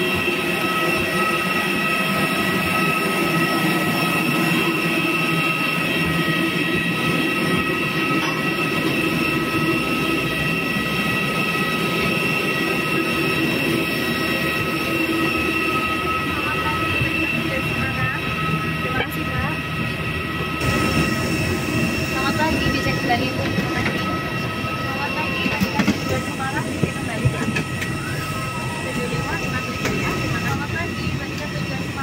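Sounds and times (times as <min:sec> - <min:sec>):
gas turbine rushing and whining: 0:00.0 - 0:32.0.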